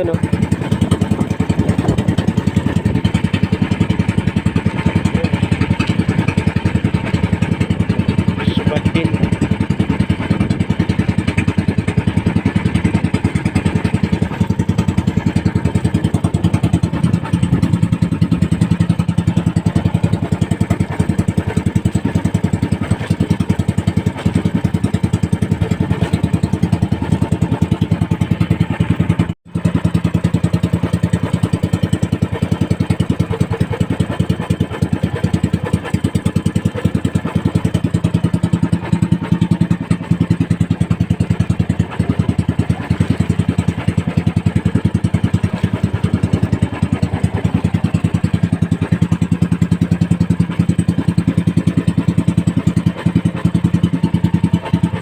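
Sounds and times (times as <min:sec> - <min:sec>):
small boat engine chugging: 0:00.0 - 0:55.0.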